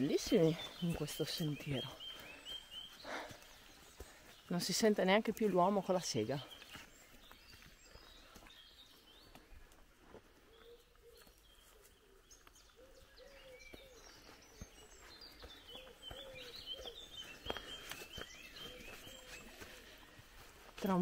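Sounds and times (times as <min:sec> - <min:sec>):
footsteps on trail: 0:00.0 - 0:21.0
songbirds chirping: 0:00.0 - 0:21.0.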